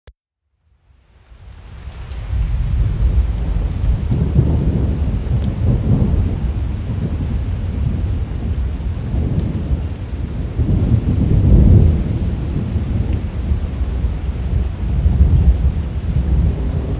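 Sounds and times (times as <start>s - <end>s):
rain hiss: 0.8s - 16.9s
rolling thunder: 2.2s - 16.9s.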